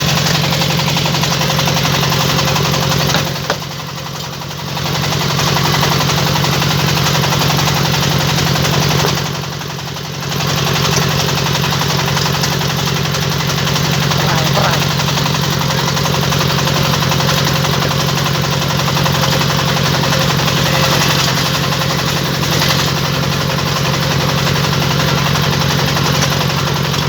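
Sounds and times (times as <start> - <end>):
brick-making machine pulsing: 0.0 - 27.0.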